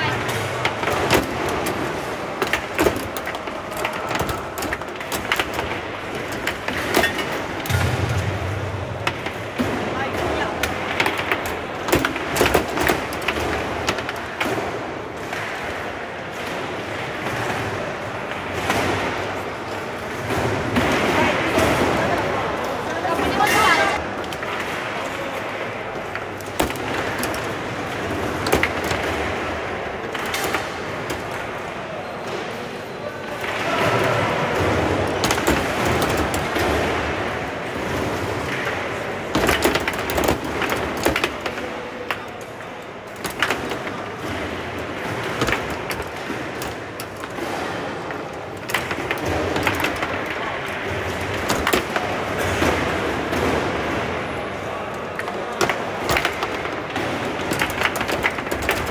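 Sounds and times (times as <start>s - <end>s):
background noise: 0.0s - 58.9s
foosball ball clicking and knocking: 0.0s - 58.9s.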